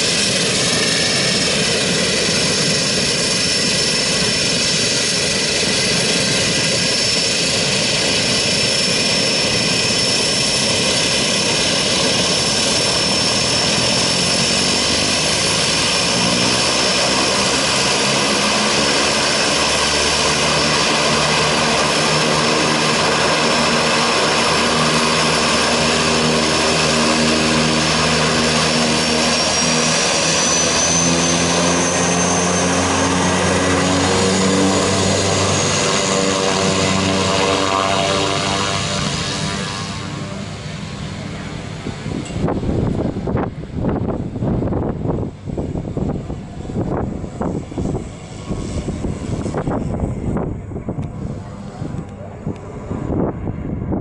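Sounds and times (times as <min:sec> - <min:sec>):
propeller drone: 0:00.0 - 0:54.0
turbine engine whine: 0:00.0 - 0:54.0.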